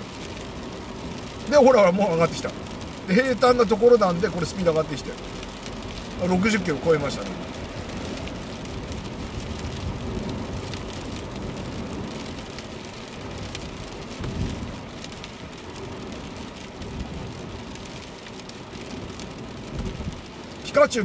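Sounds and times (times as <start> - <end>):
raindrops ticking on windscreen: 0.0 - 21.0
road and tyre noise on wet pavement: 0.0 - 21.0.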